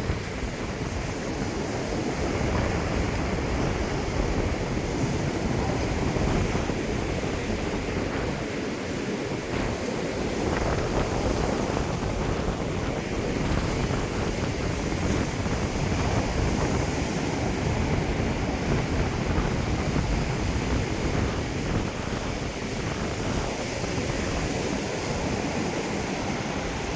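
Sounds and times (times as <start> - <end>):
ocean surf washing on beach: 0.0 - 26.9
wind rumbling on microphone: 0.0 - 26.9.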